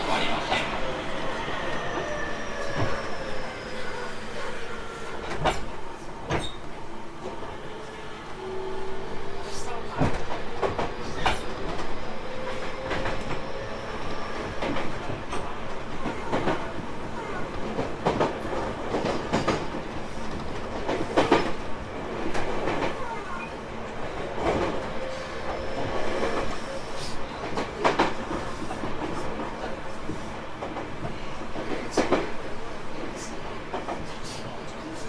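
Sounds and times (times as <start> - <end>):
electric train rolling rumble: 0.0 - 35.0.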